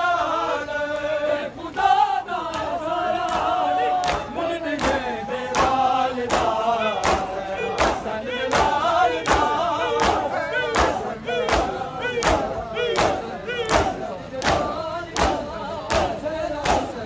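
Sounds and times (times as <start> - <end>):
crowd of men chanting a lament: 0.0 - 17.0.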